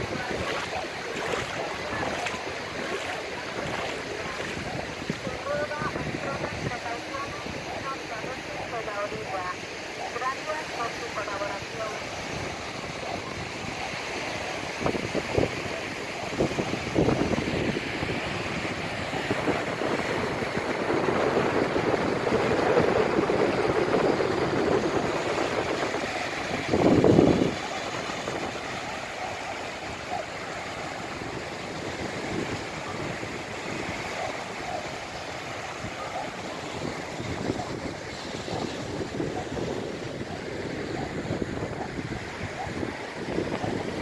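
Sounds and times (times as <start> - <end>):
wind buffeting microphone: 0.0 - 9.4, 14.6 - 44.0
small waves on sandy beach: 0.0 - 44.0.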